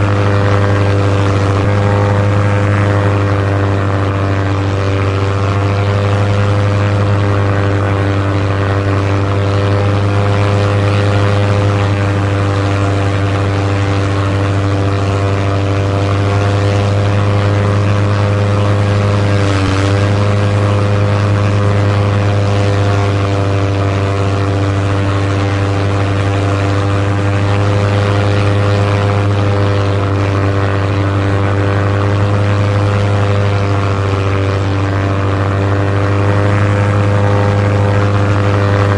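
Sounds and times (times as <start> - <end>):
propeller airplane engine: 0.0 - 38.9.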